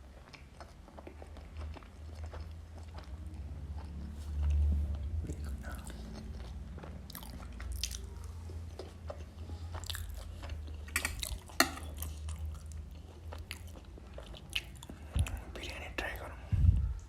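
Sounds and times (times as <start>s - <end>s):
chewing with wet lip smacks: 0.0s - 15.6s
steady low hum: 0.0s - 17.0s.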